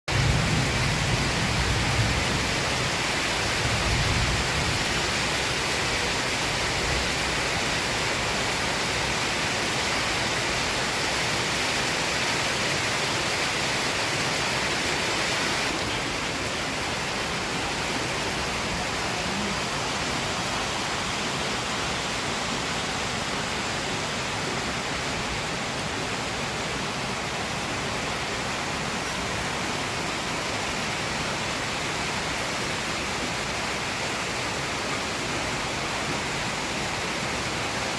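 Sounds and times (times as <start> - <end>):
heavy rain falling: 0.1 - 37.9
rainwater pouring and running off: 0.1 - 37.9.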